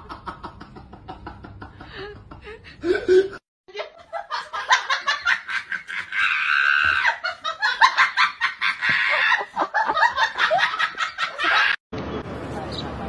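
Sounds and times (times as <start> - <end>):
person laughing hard: 0.0 - 11.8.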